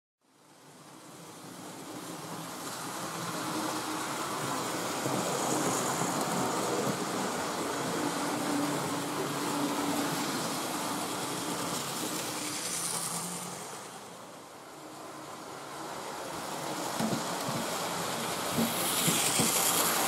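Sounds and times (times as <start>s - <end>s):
wheels rolling on track: 0.3s - 20.0s.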